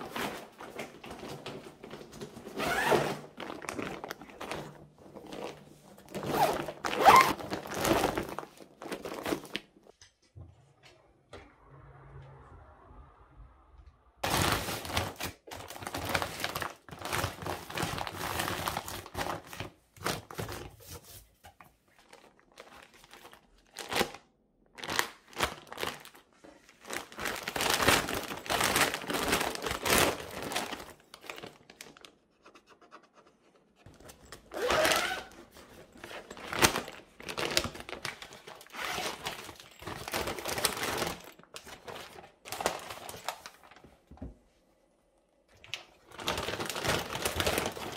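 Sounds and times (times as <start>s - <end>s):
plastic bag crinkling: 0.0s - 9.9s, 14.2s - 21.2s, 21.9s - 32.2s, 33.8s - 43.8s, 45.6s - 47.9s.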